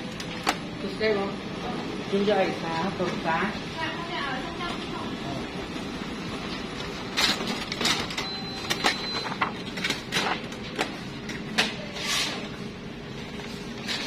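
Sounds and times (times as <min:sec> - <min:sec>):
copier humming: 0:00.0 - 0:14.0.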